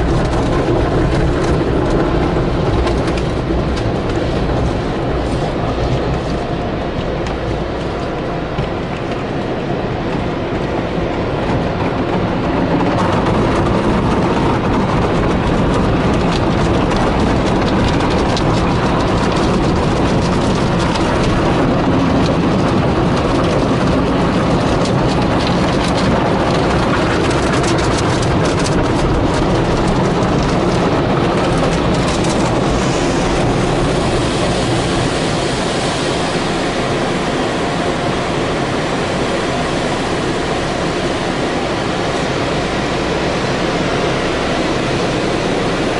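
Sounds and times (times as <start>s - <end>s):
car wash machinery rumbling: 0.0s - 45.9s.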